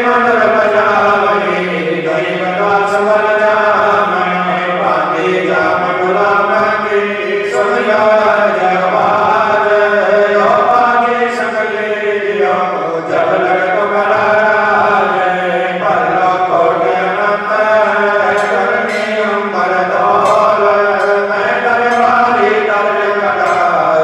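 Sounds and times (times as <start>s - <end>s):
voices chanting a gliding melody: 0.0s - 24.0s.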